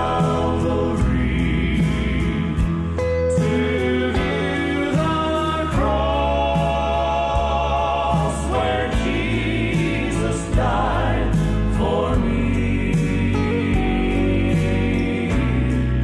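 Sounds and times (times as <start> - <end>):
choir singing: 0.0 - 16.0
instrumental accompaniment with bass: 0.0 - 16.0.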